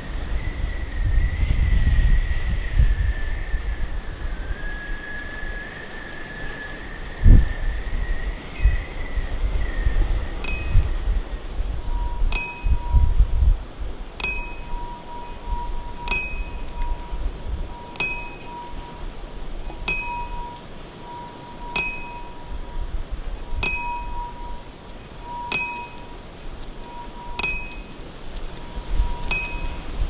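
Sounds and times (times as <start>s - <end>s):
wind-like hiss: 0.0s - 30.0s.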